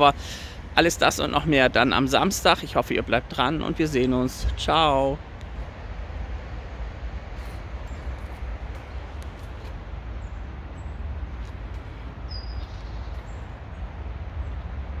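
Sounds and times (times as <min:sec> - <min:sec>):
low rumble and hiss of street: 0:00.0 - 0:15.0.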